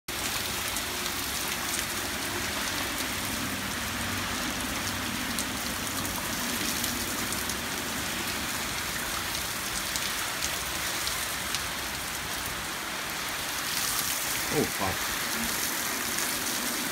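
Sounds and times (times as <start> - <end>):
heavy rain pouring: 0.1 - 16.9.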